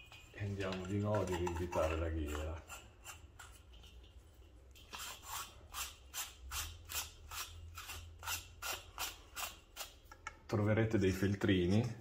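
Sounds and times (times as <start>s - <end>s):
ring nut scraping on threads: 0.4s - 10.4s.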